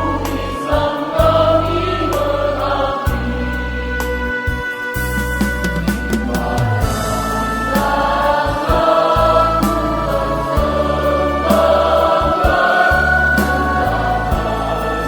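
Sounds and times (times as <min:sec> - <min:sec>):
choir singing a hymn: 0:00.0 - 0:15.0
held bass notes: 0:00.0 - 0:15.0.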